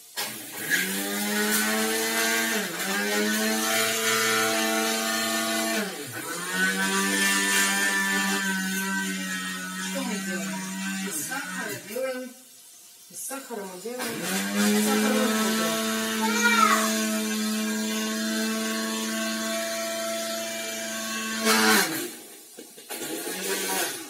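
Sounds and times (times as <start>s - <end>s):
hand blender motor whine: 0.0s - 11.9s, 14.0s - 24.0s.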